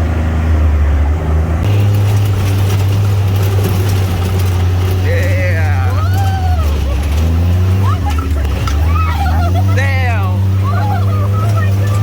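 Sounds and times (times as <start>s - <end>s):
rough rushing noise: 0.0s - 12.0s
utv engine droning: 0.0s - 12.0s.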